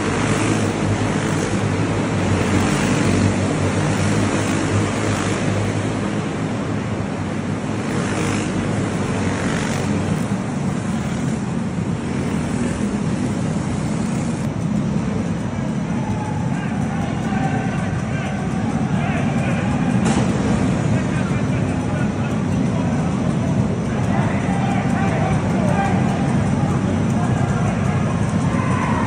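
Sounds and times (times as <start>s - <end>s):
racing kart engines droning: 0.0s - 29.0s.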